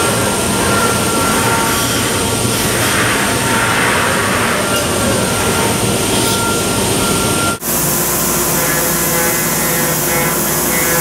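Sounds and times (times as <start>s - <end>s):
cnc router machining noise: 0.0s - 11.0s
high spindle whine: 0.0s - 11.0s.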